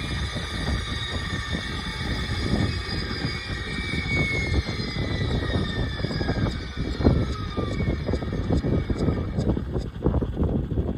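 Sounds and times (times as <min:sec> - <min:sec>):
low rumble: 0:00.0 - 0:10.9
rc helicopter whine: 0:00.0 - 0:10.9.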